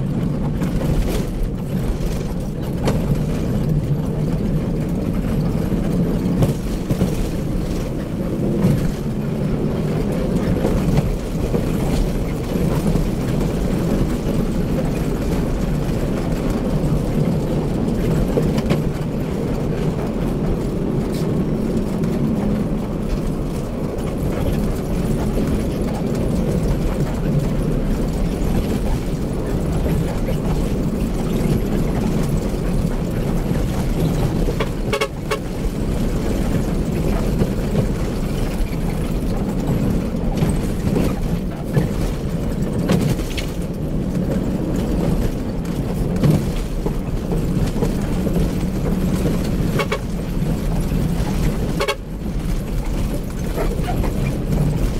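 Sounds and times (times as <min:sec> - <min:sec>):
bus engine drone: 0:00.0 - 0:54.9.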